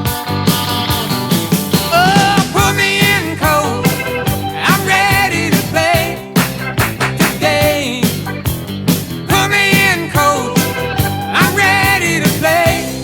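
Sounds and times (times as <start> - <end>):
song with vocals and drum beat: 1.8 - 13.0.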